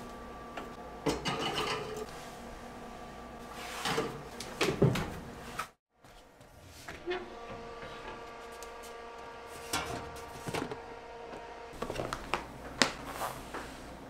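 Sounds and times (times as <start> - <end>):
fan humming: 0.0 - 14.0.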